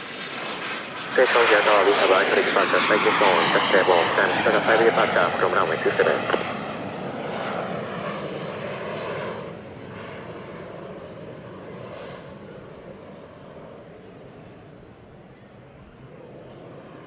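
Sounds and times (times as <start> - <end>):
jet climbing after takeoff: 0.0 - 17.0.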